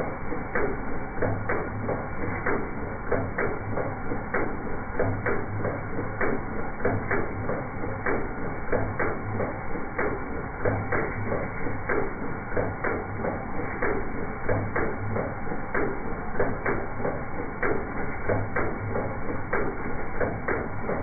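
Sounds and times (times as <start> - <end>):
engine misfiring with ticks: 0.0 - 21.0.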